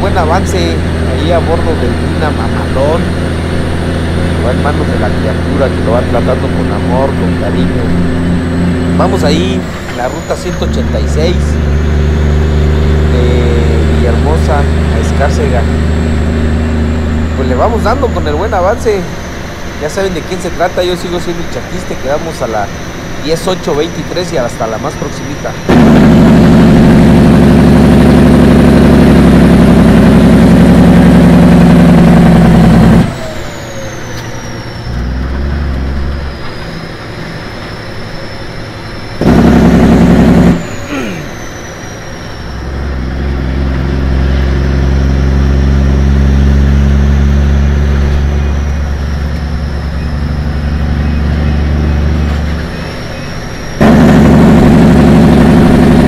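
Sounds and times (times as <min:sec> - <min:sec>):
truck engine drone: 0:00.0 - 0:56.0.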